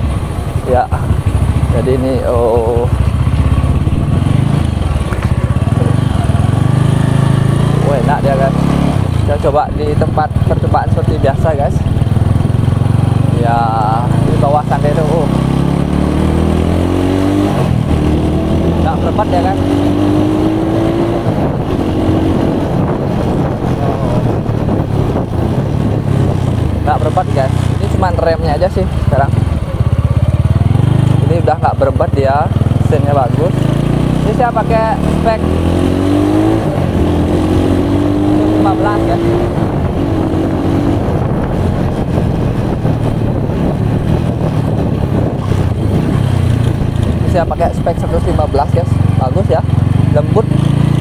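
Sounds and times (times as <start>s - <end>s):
wind noise on microphone: 0.0s - 14.6s, 15.3s - 51.0s
motorcycle engine running: 0.0s - 51.0s.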